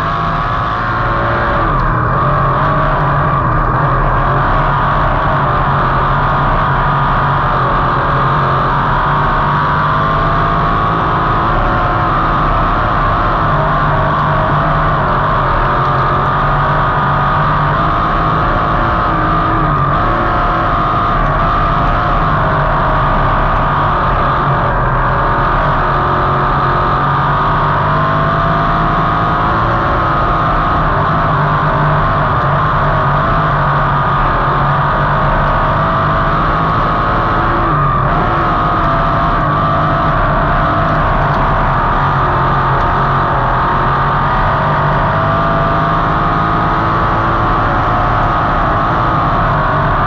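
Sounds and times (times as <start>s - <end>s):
race car engine running hard: 0.0s - 50.0s.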